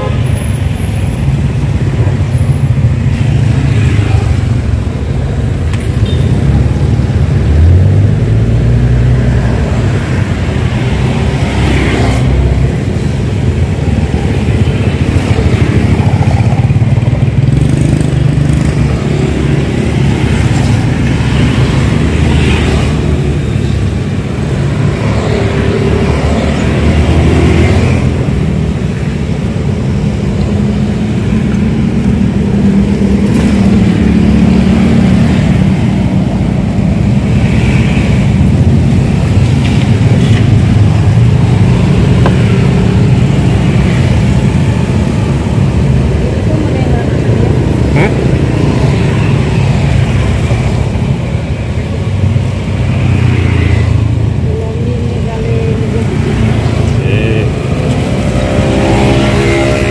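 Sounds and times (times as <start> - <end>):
motorcycles passing: 0.0 - 59.9
road traffic rumble: 0.0 - 59.9.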